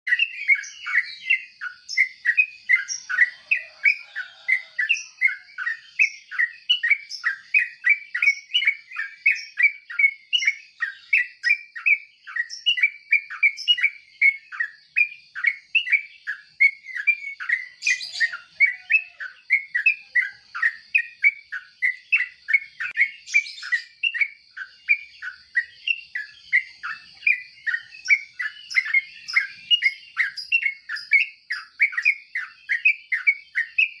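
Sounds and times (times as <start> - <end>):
bird chirping: 0.0 - 34.0.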